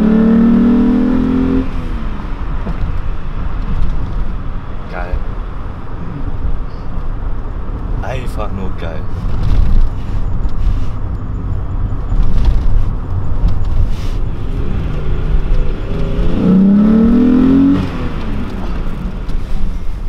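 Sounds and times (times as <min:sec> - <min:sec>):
car engine revving: 0:00.0 - 0:08.0, 0:11.4 - 0:20.0
deep exhaust rumble: 0:01.7 - 0:20.0.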